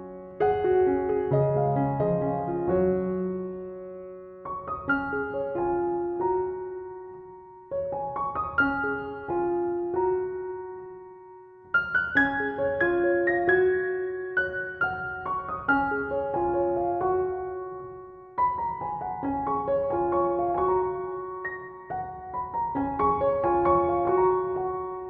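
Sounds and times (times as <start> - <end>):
gentle solo piano music: 0.0 - 25.0.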